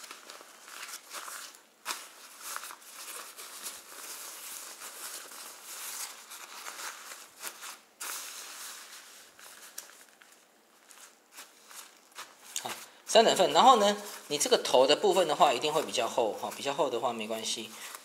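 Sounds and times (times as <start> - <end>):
fabric rustling and crinkling: 0.0 - 18.0.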